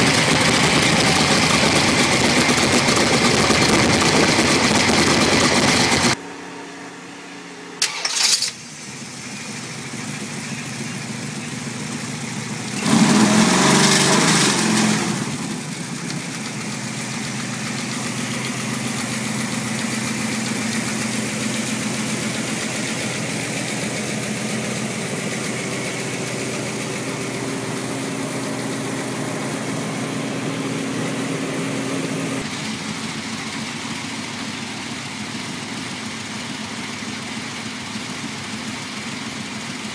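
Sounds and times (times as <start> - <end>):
engine starting and idling: 0.0 - 6.2, 7.8 - 34.7.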